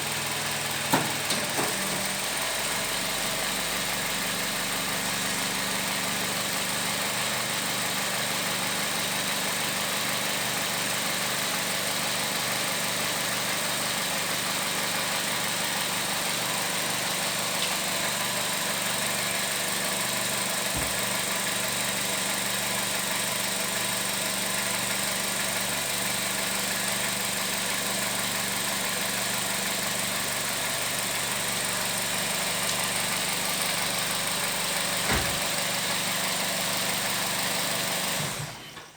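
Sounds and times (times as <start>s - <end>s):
car engine idling: 0.0s - 10.2s, 10.8s - 37.8s.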